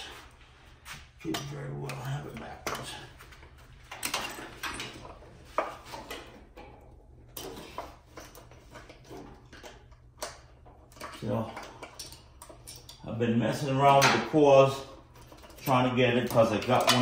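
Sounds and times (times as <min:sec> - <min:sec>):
wires rustling: 0:00.0 - 0:17.0.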